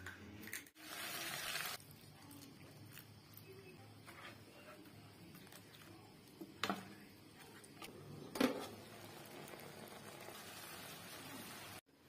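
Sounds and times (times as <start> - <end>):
food simmering hiss: 0.8 - 12.0.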